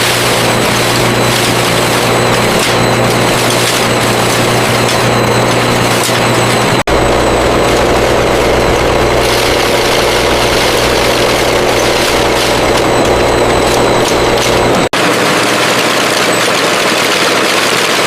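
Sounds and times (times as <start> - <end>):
factory machinery running: 0.0 - 18.0.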